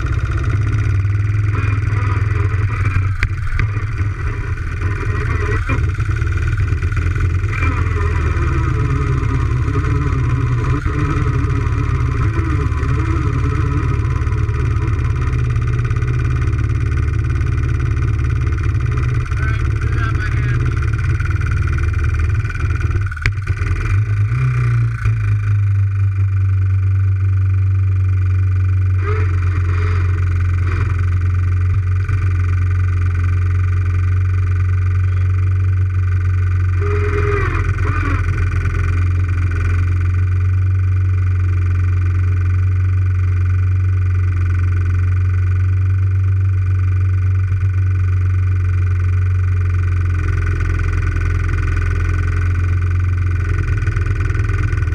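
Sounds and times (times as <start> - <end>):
quad engine idling: 0.0 - 54.9.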